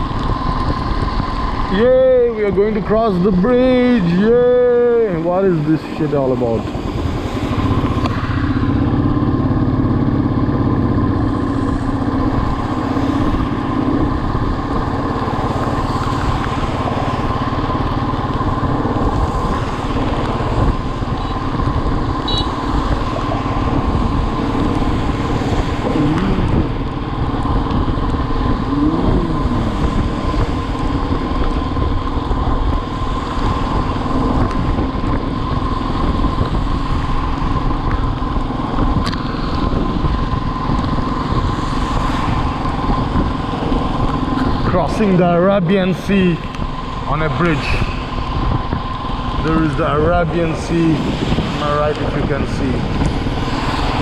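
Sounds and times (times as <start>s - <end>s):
motorcycle engine at speed: 0.0s - 54.0s
road and wind noise: 0.0s - 54.0s.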